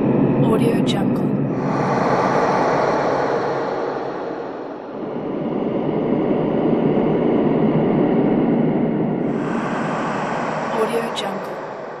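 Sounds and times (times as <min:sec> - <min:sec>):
deep processed breathing: 0:01.4 - 0:12.0.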